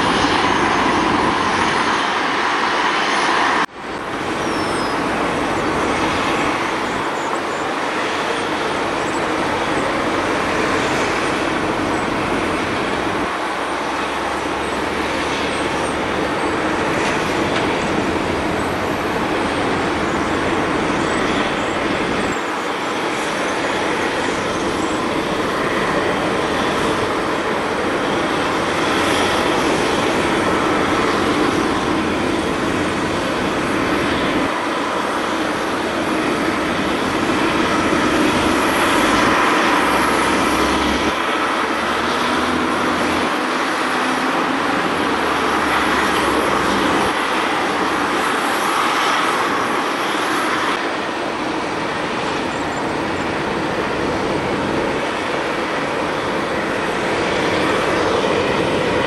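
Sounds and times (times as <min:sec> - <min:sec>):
jet engine noise: 0:00.0 - 0:59.0.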